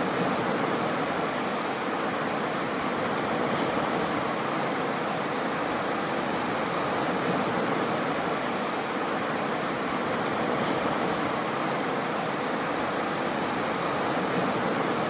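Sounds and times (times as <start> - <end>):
small waves washing onto beach: 0.0 - 15.0.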